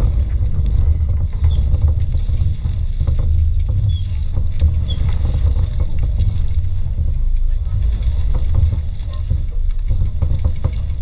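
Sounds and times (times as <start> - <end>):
vehicle engine rumbling at low revs: 0.0 - 11.0.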